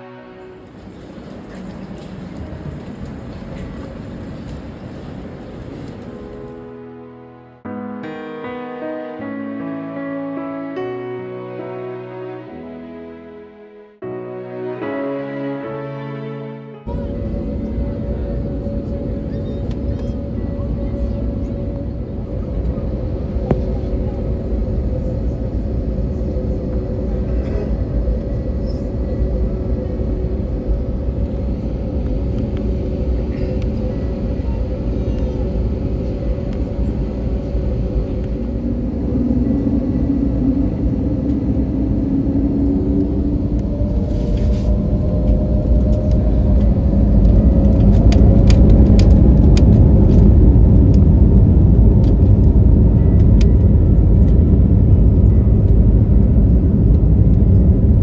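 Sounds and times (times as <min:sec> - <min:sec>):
jet cabin rumble: 0:00.0 - 0:06.8, 0:16.9 - 0:58.0.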